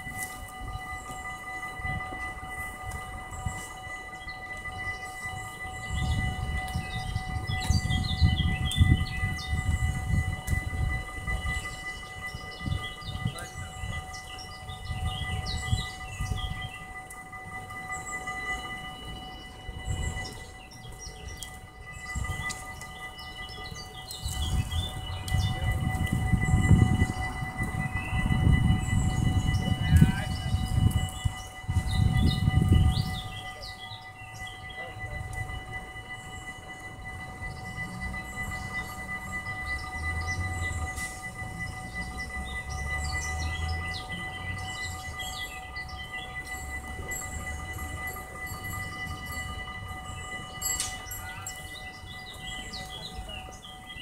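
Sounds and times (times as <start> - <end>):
electric train rumbling: 0.0 - 54.0
level crossing warning bells: 0.0 - 54.0
small birds chirping: 0.0 - 54.0.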